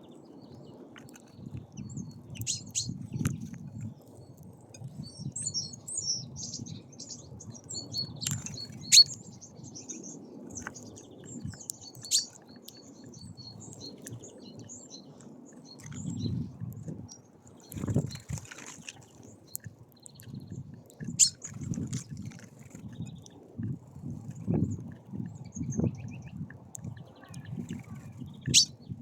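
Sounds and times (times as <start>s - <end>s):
songbirds chirping and twittering: 0.0s - 29.0s.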